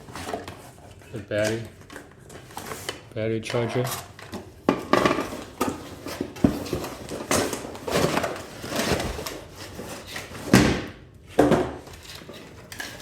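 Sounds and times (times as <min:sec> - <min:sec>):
packaging rustling and scraping: 0:00.0 - 0:10.8, 0:11.8 - 0:13.0.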